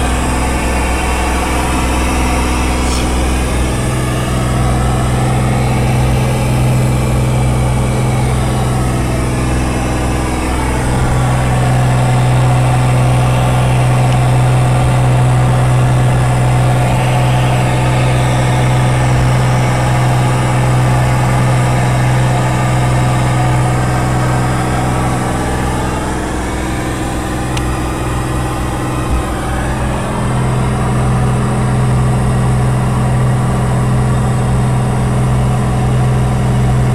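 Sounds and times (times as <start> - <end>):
aircraft engine and propeller drone: 0.0 - 36.9.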